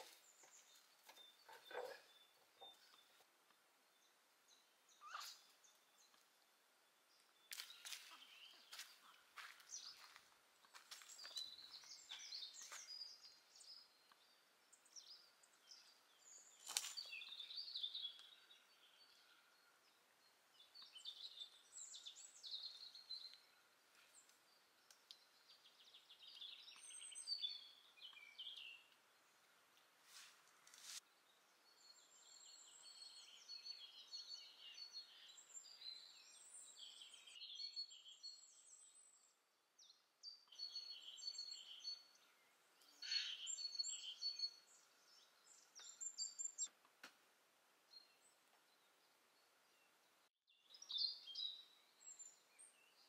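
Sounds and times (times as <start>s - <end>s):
faint songbirds warbling: 0.0s - 46.7s, 47.8s - 53.0s.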